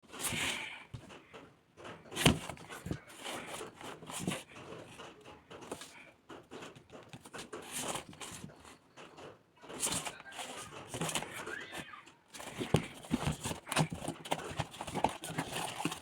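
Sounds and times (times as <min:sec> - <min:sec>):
packaging rustling and scraping: 0:00.1 - 0:01.1, 0:01.9 - 0:08.9, 0:09.7 - 0:16.0.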